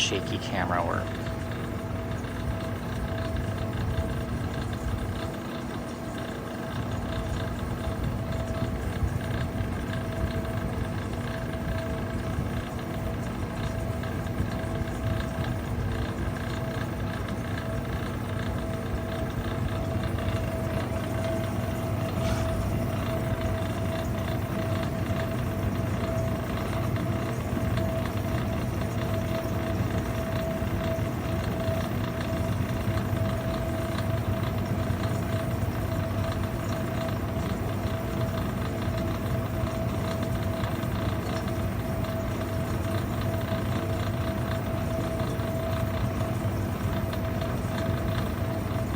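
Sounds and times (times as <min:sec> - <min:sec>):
dehumidifier compressor humming: 0:00.0 - 0:48.9
noisy fan motor: 0:00.0 - 0:48.9.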